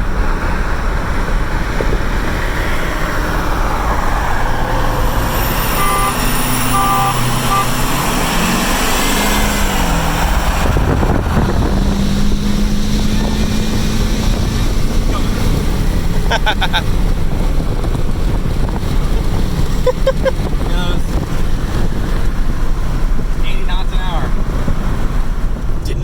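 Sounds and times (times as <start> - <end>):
road and wind noise: 0.0 - 26.0
truck engine pulling under throttle: 0.0 - 26.0.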